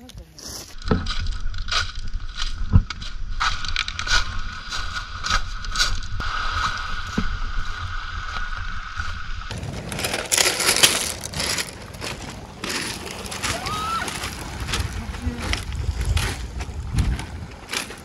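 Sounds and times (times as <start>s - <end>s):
footsteps crunching on pebbles: 0.4s - 18.0s
wind rumbling on microphone: 0.7s - 18.0s.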